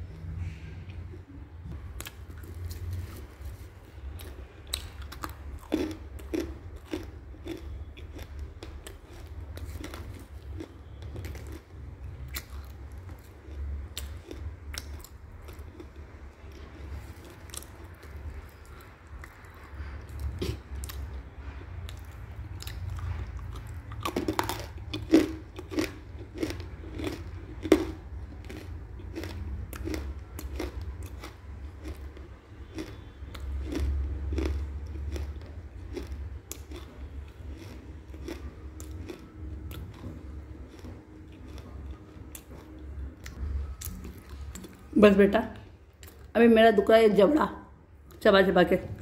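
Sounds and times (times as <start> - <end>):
crunchy chewing: 1.7 - 44.9.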